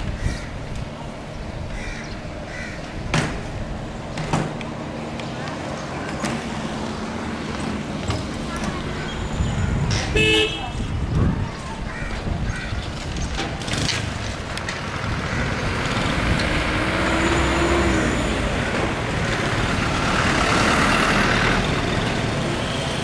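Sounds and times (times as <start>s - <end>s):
truck passing close: 0.0s - 10.4s, 12.8s - 23.0s
vehicle engines passing: 0.0s - 23.0s.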